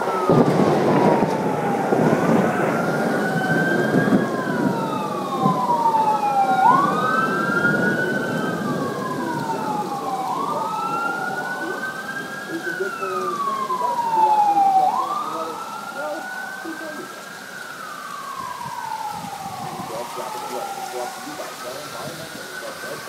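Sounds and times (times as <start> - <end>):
emergency siren wailing: 0.0 - 23.0
heavy rain hissing: 0.0 - 23.0.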